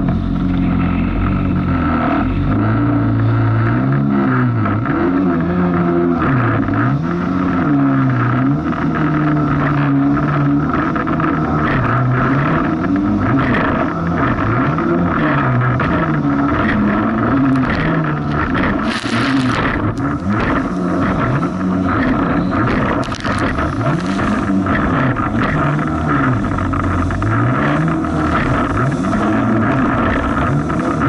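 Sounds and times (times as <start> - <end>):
jet ski engine running: 0.0 - 31.0.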